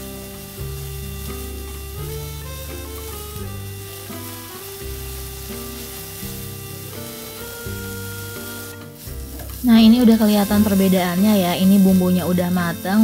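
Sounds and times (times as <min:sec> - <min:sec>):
background music with held notes: 0:00.0 - 0:13.0
paste sizzling in oil: 0:00.0 - 0:13.0.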